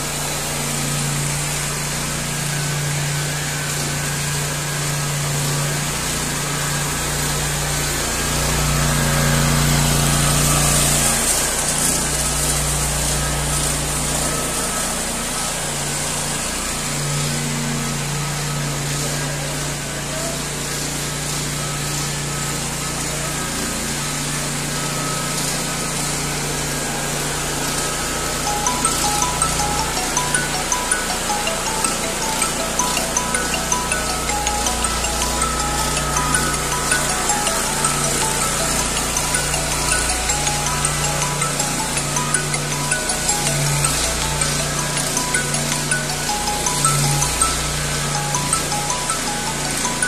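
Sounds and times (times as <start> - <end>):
petrol engine running: 0.0 - 50.0.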